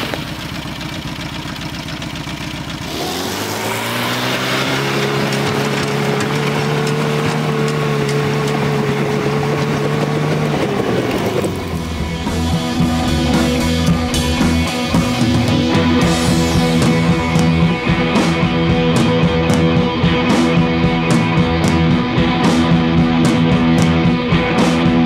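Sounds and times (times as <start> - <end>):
small tractor engine running: 0.0 - 25.0
rock music with guitar and drums: 2.6 - 25.0.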